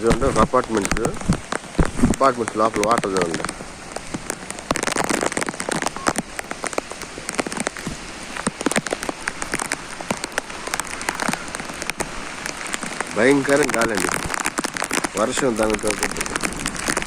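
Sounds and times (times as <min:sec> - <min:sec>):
close raindrop hits: 0:00.0 - 0:17.0
heavy rain pouring: 0:00.0 - 0:17.0.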